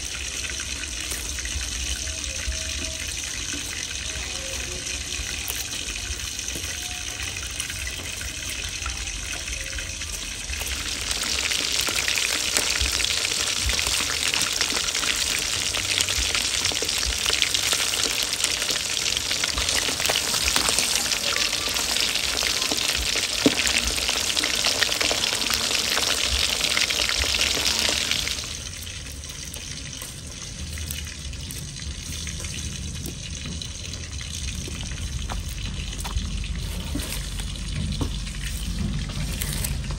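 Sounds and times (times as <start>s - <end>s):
eel frying in hot oil: 0.0s - 39.9s.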